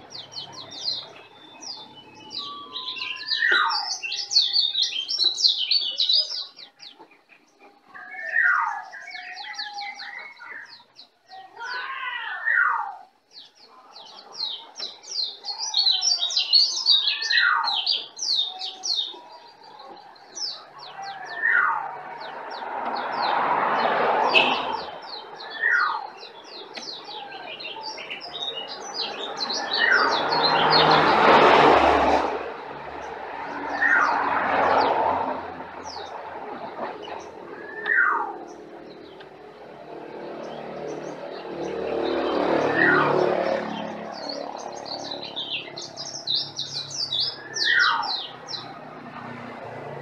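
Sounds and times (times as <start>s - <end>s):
songbird chirps and trills: 0.0s - 31.8s, 32.6s - 49.4s.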